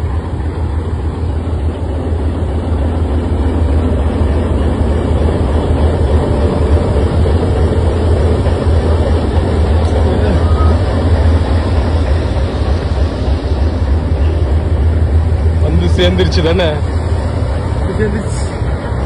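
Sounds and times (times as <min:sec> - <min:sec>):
diesel locomotive engine rumbling: 0:00.0 - 0:19.0.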